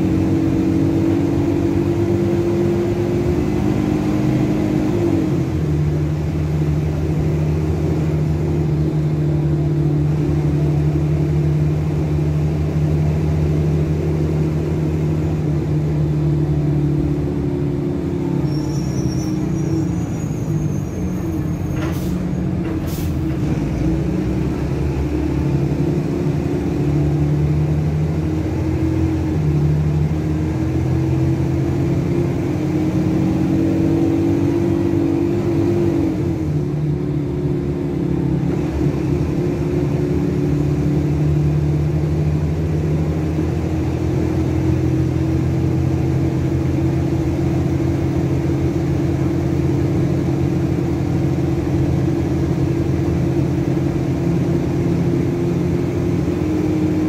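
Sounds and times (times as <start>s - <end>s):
bus diesel engine while driving: 0.0s - 57.0s.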